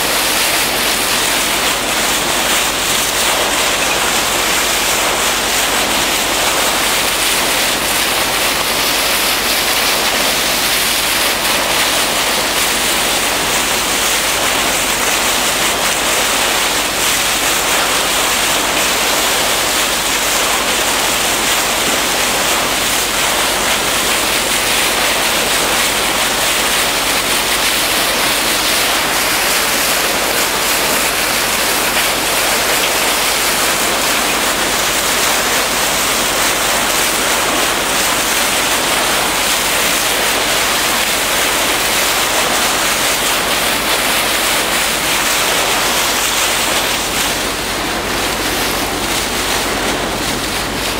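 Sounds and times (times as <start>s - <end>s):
rushing hiss of sea water: 0.0s - 50.9s.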